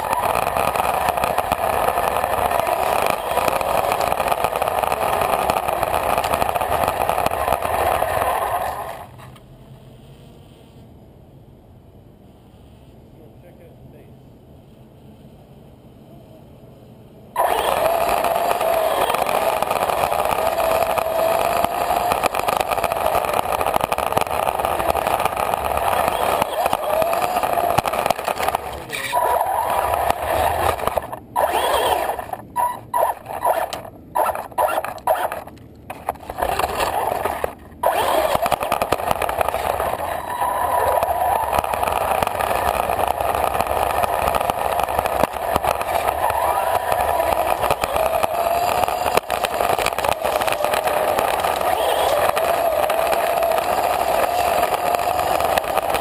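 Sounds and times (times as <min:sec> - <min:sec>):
rc car motor whining: 0:00.0 - 0:09.4, 0:17.4 - 0:56.0
tyres rolling over asphalt: 0:00.0 - 0:09.9, 0:17.2 - 0:56.0.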